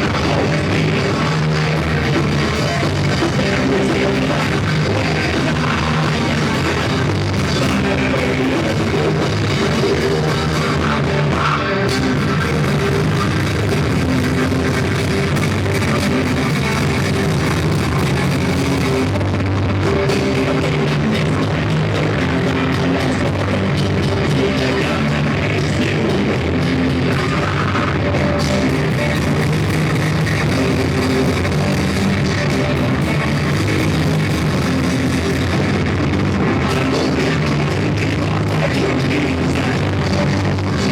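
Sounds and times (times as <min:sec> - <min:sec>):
distorted electric guitar: 0:00.0 - 0:40.9
drum kit: 0:00.0 - 0:40.9.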